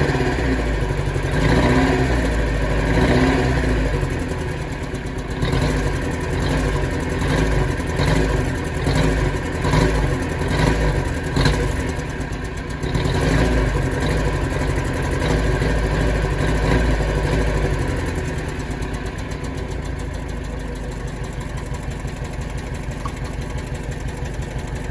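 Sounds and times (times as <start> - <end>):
car engine revving and idling: 0.0 - 24.9.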